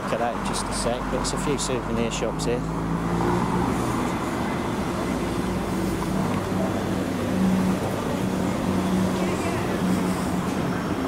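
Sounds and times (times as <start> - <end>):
low engine hum: 0.0 - 11.0
street noise: 0.0 - 11.0.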